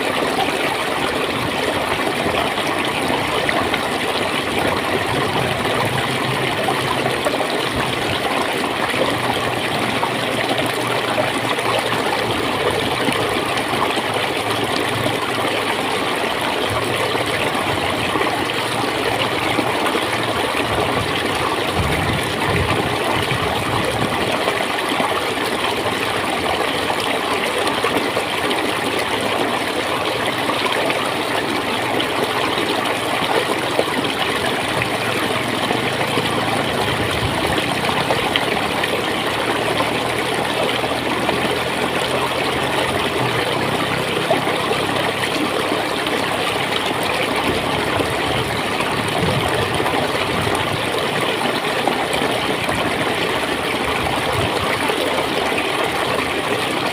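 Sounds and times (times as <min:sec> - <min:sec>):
stream water gurgling: 0:00.0 - 0:56.9.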